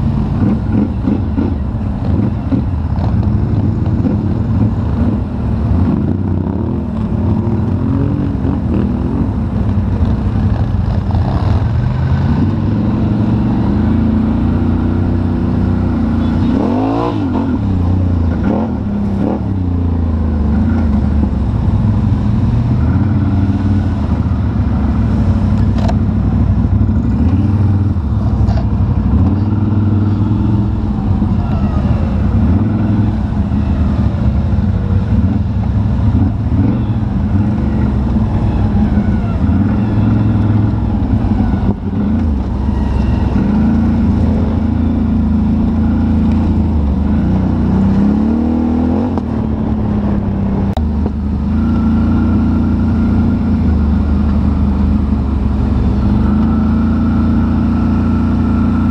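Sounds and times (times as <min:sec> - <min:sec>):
atv engines revving: 0:00.0 - 0:58.9.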